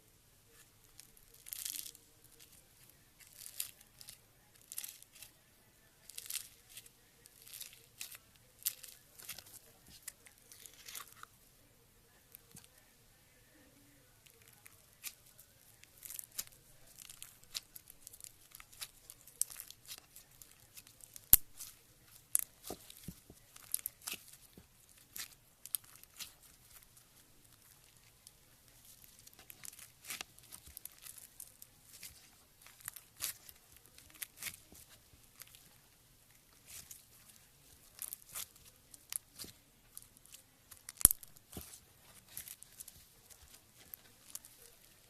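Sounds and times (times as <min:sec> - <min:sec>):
slime squelching and popping: 0:00.8 - 0:02.6, 0:03.2 - 0:05.4, 0:06.0 - 0:11.3, 0:14.3 - 0:45.0.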